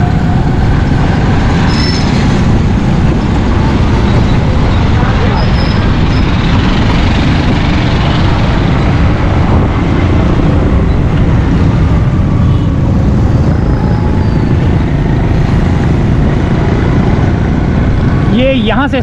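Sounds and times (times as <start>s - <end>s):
wind rushing: 0.0s - 18.6s
traffic noise: 0.0s - 19.0s.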